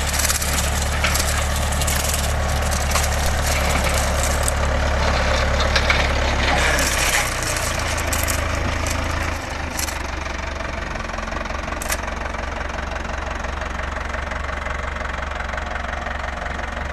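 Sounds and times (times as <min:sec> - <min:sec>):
tractor diesel engine: 0:00.0 - 0:16.9.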